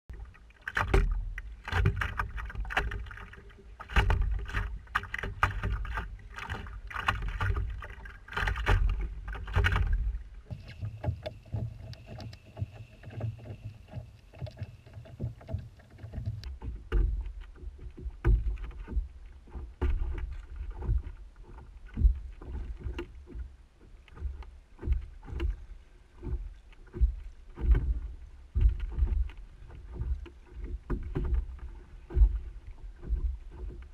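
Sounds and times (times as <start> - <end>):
paddle knocking against hull: 0.1 - 33.9
paddle splashing in water: 0.1 - 33.9.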